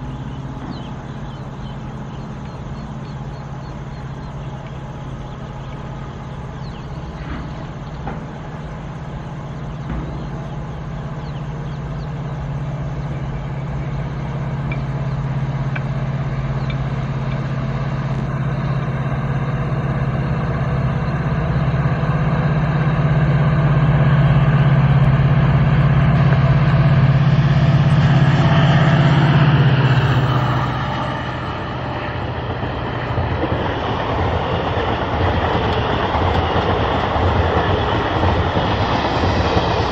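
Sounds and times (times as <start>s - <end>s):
diesel locomotive engine drone: 0.0s - 39.9s
train coaches rattling on rails: 0.0s - 39.9s.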